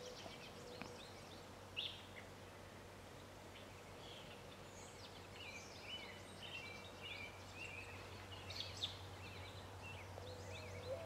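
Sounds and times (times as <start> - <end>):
birds chirping and singing: 0.0 - 2.3, 3.6 - 11.0.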